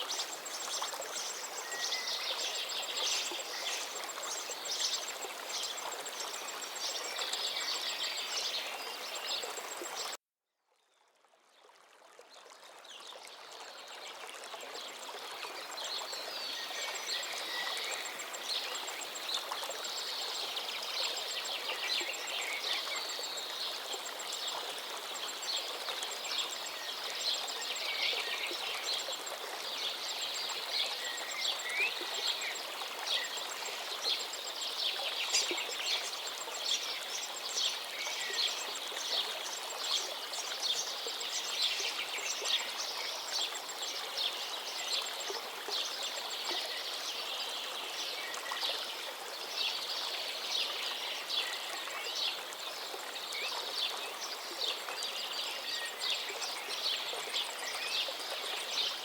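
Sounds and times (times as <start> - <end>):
river running: 0.0 - 10.2, 11.2 - 59.0.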